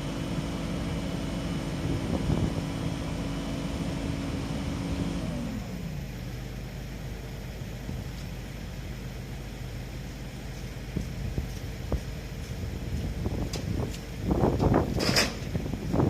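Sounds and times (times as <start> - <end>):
diesel engine revving and idling: 0.0 - 16.0.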